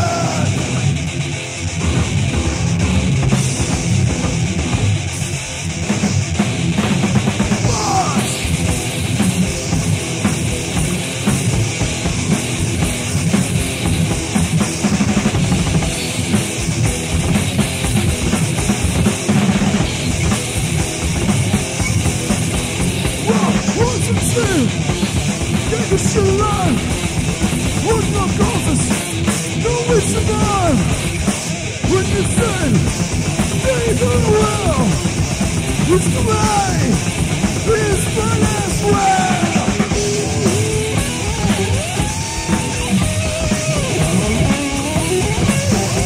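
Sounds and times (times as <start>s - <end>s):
distorted rhythm guitars: 0.0s - 46.0s
fast drums: 0.0s - 46.0s.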